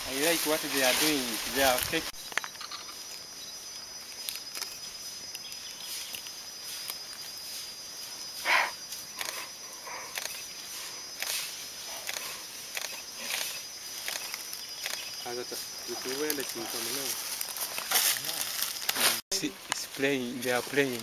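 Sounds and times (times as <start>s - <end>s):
high insect buzz: 0.0s - 21.0s
leaves rustling: 0.0s - 21.0s.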